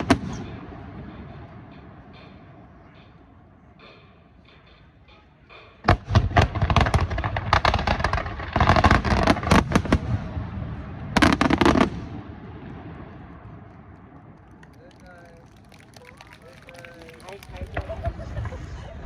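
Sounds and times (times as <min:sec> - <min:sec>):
fireworks bangs and crackles: 0:00.0 - 0:02.7, 0:05.8 - 0:19.0
fireworks rumble: 0:00.0 - 0:19.0.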